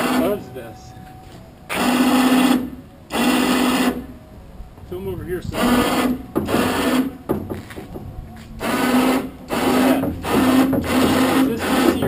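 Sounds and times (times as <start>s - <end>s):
electric winch motor whining: 0.0s - 12.0s.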